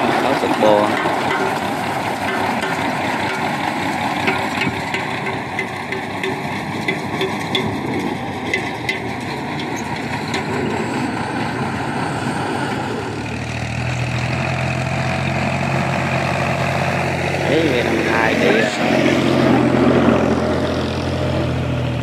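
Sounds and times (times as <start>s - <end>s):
diesel tractor engine: 0.0s - 22.0s
low engine drone: 0.0s - 22.0s.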